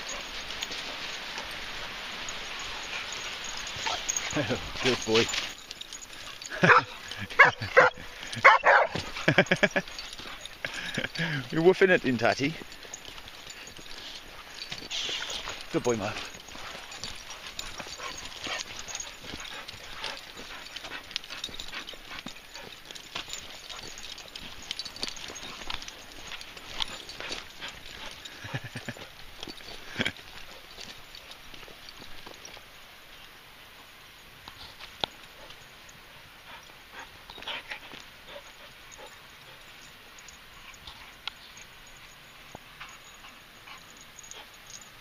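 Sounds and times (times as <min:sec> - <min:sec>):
dog paws pattering and clicking: 0:00.0 - 0:45.0
footsteps on a rough path: 0:00.0 - 0:45.0.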